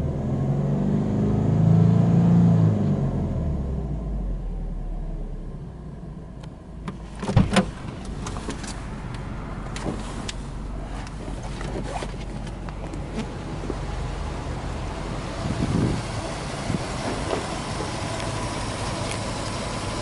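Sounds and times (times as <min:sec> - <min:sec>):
car engine idling: 0:04.0 - 0:20.0.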